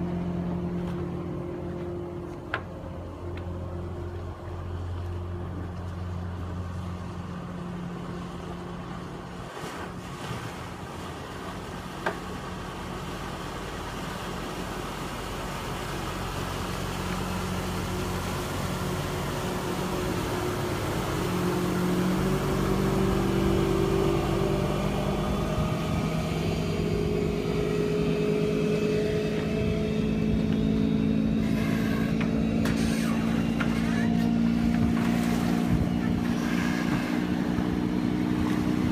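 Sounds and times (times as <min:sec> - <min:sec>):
motorboat engine running: 0:00.0 - 0:38.9.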